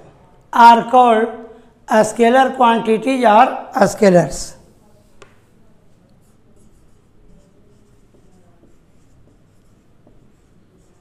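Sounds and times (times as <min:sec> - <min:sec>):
marker pen writing on whiteboard: 0:02.0 - 0:11.0.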